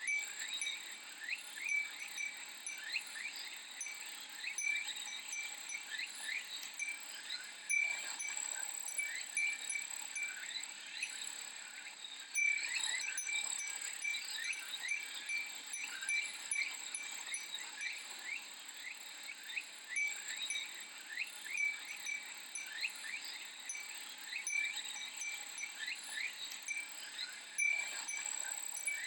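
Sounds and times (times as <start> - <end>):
glass wind chime tinkling: 0.0 - 11.6, 12.2 - 29.0
cicadas droning: 0.0 - 29.0.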